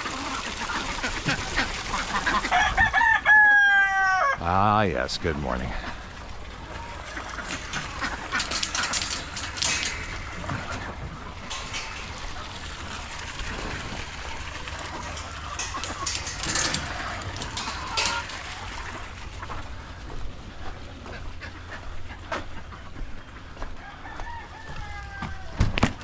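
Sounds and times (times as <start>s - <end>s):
chickens and ducks calling: 0.0s - 4.9s, 5.6s - 25.9s
birds scuffling: 0.0s - 26.0s.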